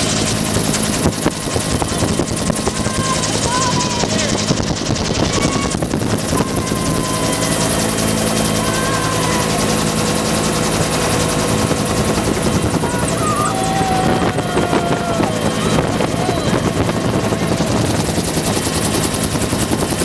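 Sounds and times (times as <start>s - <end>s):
helicopter rotor and engine: 0.0s - 20.0s.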